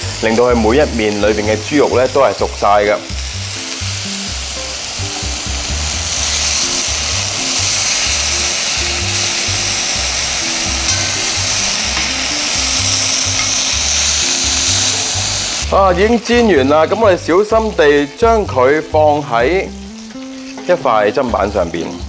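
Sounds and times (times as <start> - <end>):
background music with bass: 0.0 - 22.0
food sizzling in a frying pan: 0.0 - 22.0.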